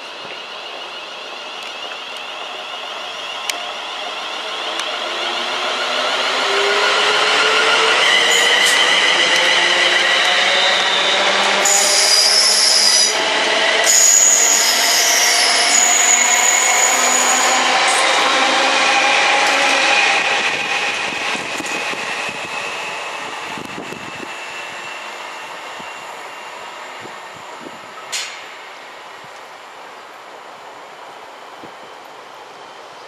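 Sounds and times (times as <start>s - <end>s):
high-pitched squeals: 0.0s - 28.0s
electric train traction whine: 0.0s - 28.6s.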